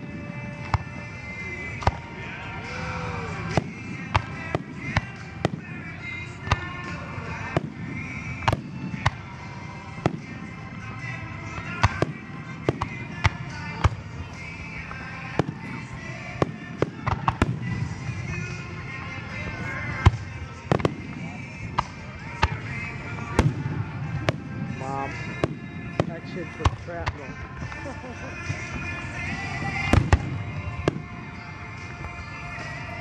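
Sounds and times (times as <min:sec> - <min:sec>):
continuous rumble: 0:00.0 - 0:33.0
fireworks bursting: 0:00.0 - 0:33.0
music: 0:00.0 - 0:33.0.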